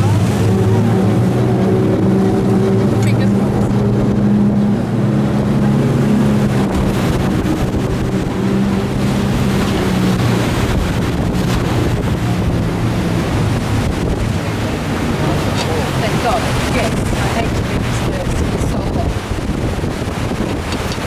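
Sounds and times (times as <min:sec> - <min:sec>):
boat engines droning: 0:00.0 - 0:21.0
water rushing against hull: 0:00.0 - 0:21.0
wind on microphone: 0:00.0 - 0:21.0.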